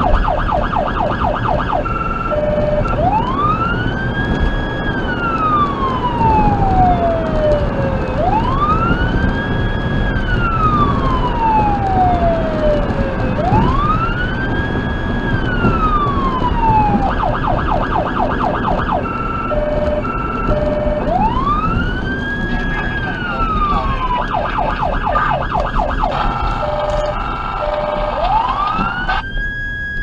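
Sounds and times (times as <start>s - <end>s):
electronic siren: 0.0s - 30.0s
road and engine noise: 0.0s - 30.0s.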